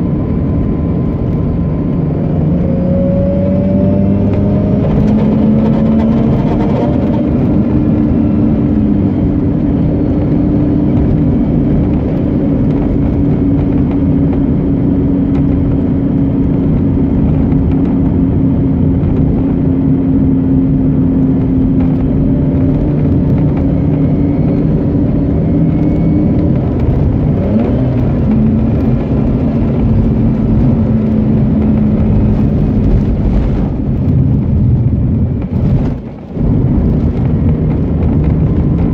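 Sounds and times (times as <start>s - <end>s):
rotary car engine droning: 0.0s - 38.9s.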